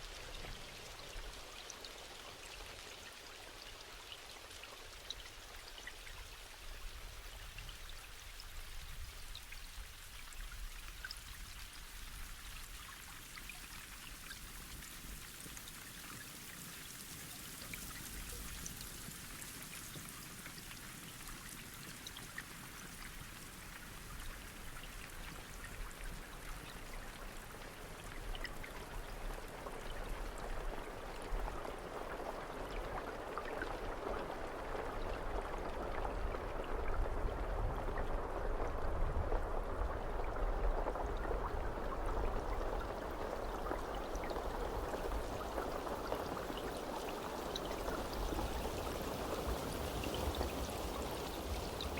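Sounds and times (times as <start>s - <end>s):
rain falling steadily: 0.0s - 51.9s.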